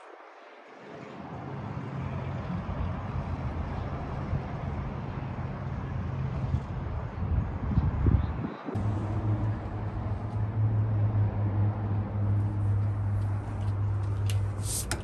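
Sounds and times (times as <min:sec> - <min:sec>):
vehicle engine rumble: 0:01.1 - 0:15.0.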